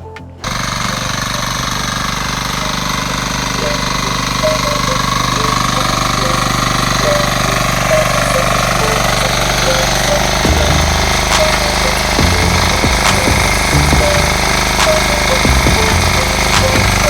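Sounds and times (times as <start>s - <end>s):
weeder engine clattering: 0.2s - 17.0s.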